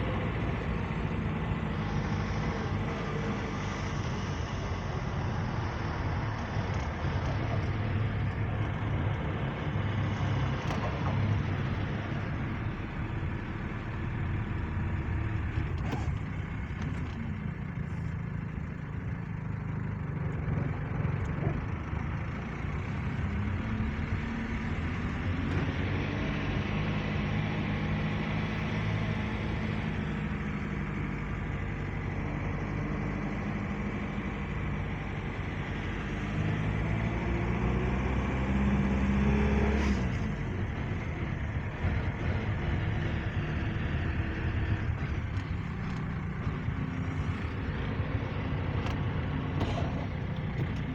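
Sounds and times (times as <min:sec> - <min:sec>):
motor vehicle engine rumble: 0:00.0 - 0:50.9.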